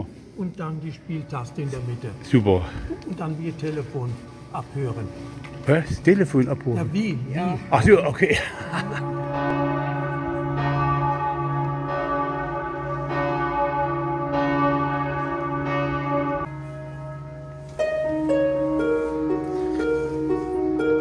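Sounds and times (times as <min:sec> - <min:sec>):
church bells ringing: 0:00.8 - 0:21.0.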